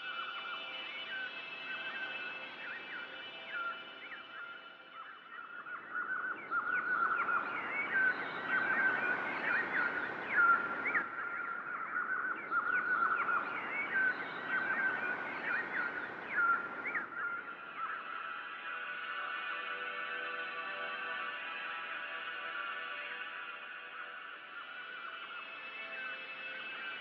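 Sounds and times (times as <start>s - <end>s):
songbirds chirping and twittering: 0.0s - 27.0s.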